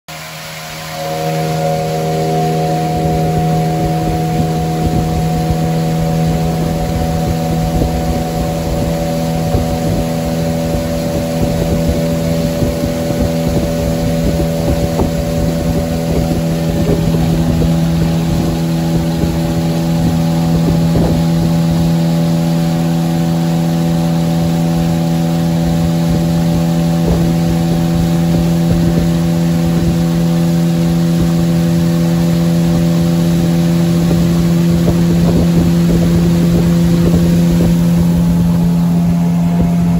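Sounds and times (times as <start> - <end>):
boat engine droning: 0.1 - 39.9
water rushing along hull: 0.1 - 39.9
wind rumble on microphone: 0.1 - 39.9.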